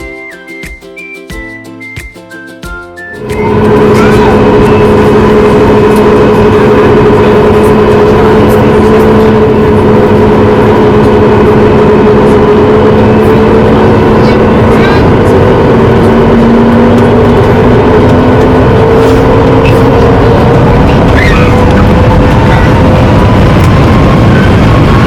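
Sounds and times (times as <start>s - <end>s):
airplane cabin engine rush: 2.6s - 25.0s.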